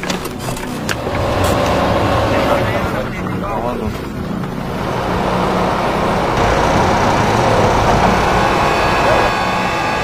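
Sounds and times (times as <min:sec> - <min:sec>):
heavy vehicle engine rumbling: 0:00.4 - 0:10.0.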